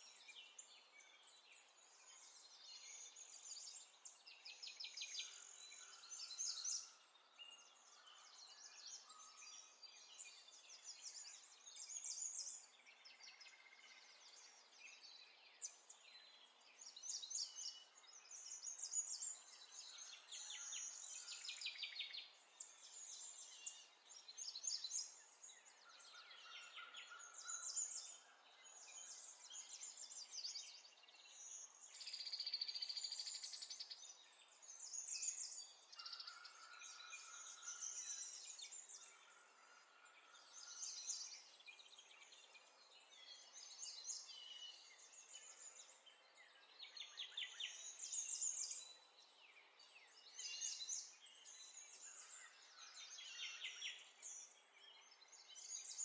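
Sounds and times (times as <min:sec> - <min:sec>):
birds chirping and trilling: 0:00.1 - 0:56.0.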